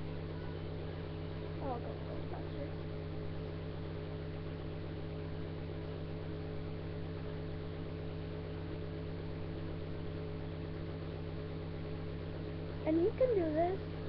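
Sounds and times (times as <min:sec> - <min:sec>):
constant hiss: 0:00.0 - 0:14.0
low electrical hum: 0:00.0 - 0:14.0.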